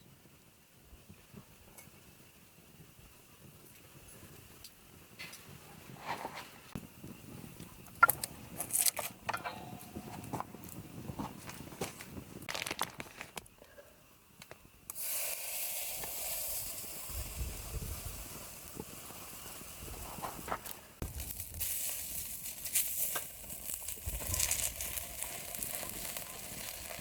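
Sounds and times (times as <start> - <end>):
steady hiss: 0.1 - 27.0.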